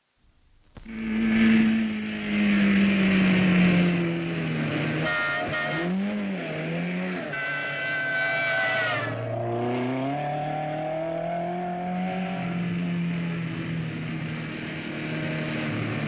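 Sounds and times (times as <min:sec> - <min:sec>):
car engine running under load: 0:00.6 - 0:16.0.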